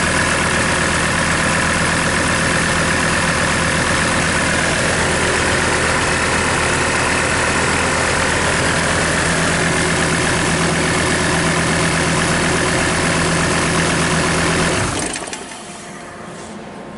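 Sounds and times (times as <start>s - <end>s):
diesel engine idling: 0.0s - 16.9s.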